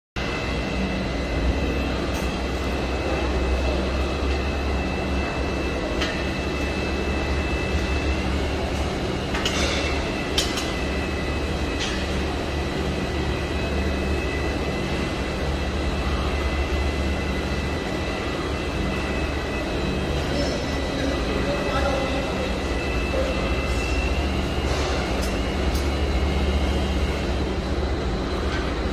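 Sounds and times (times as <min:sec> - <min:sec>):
machinery drone with high whine: 0:00.2 - 0:28.9.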